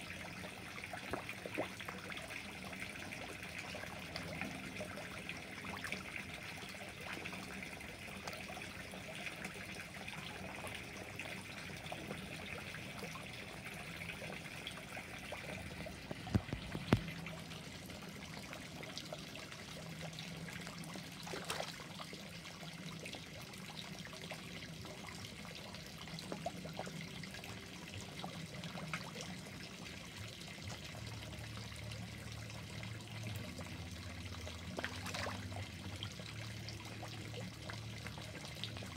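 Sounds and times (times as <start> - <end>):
pond water trickling: 0.0 - 38.9.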